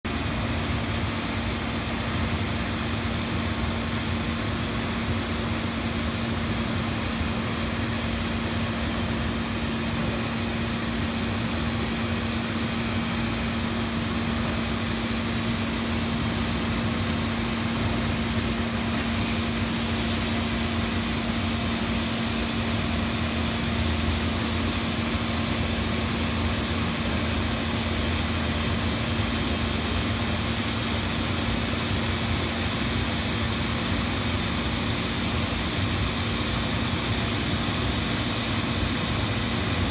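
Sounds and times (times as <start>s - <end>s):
workshop machinery hum: 0.0s - 39.9s.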